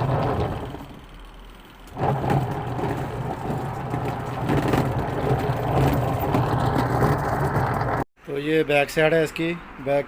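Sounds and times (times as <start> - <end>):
washing machine motor humming: 0.0 - 8.1.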